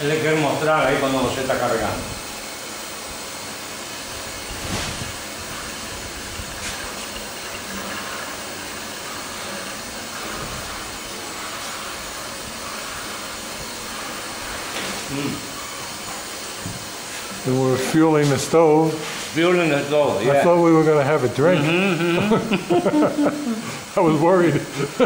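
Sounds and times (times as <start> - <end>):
fuel hissing through hose: 0.0 - 25.0.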